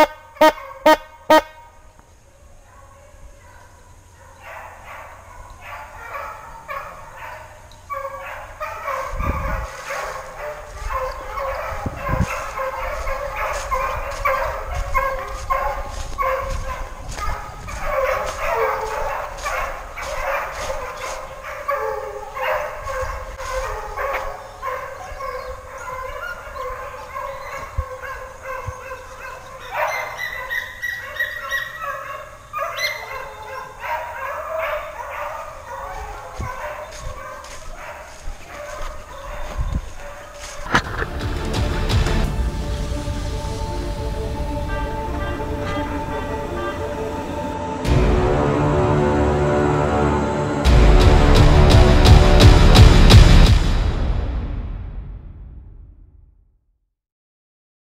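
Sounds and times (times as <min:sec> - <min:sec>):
hounds baying: 0:00.0 - 0:01.7, 0:02.3 - 0:51.3.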